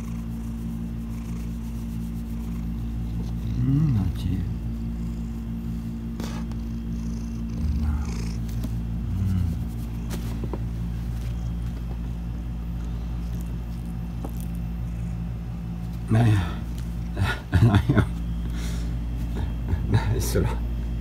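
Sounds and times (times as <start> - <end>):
cat purring: 0.0 - 17.2.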